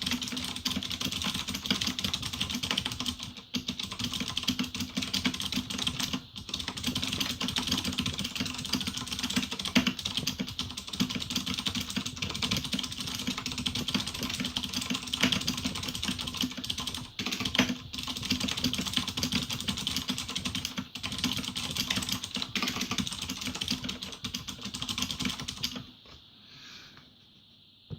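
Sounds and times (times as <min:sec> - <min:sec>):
mechanical keyboard typing: 0:00.0 - 0:25.9.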